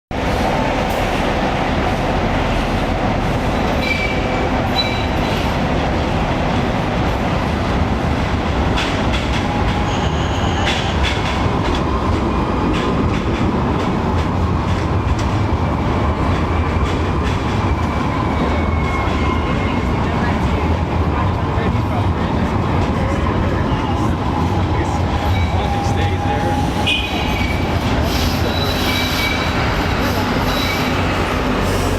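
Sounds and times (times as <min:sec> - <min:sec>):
tram rumbling on rails: 0:00.1 - 0:31.9.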